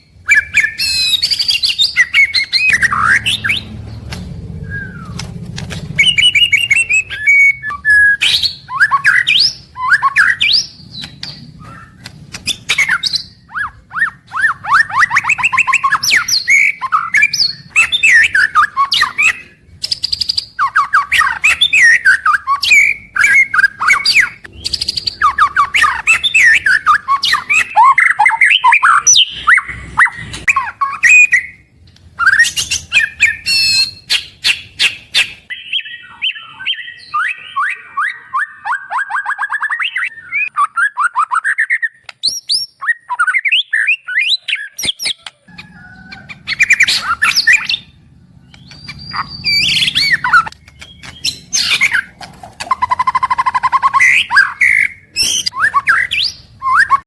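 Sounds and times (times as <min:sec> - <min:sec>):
bird singing trills and whistles: 0:00.0 - 0:57.0.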